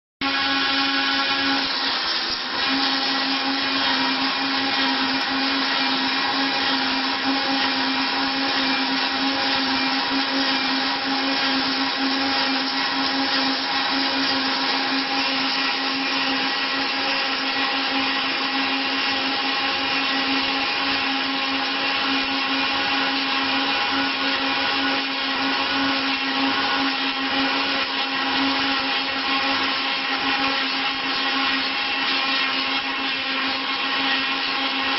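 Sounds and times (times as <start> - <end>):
milling machine whine: 0.2 - 34.9.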